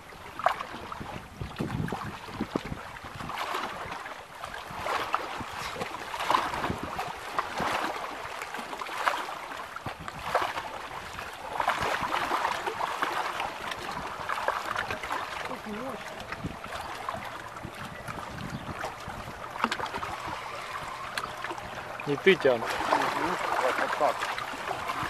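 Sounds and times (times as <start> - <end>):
wind on microphone: 0.0 - 8.1, 9.7 - 25.0
waves lapping against boat hull: 0.0 - 25.0.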